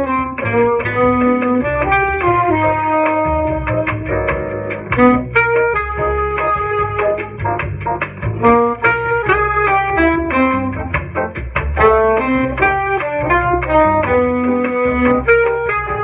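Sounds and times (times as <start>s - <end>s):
bass accompaniment: 0.0s - 16.0s
recorded saxophone: 0.0s - 16.0s
soprano saxophone playing jazz: 0.0s - 16.0s.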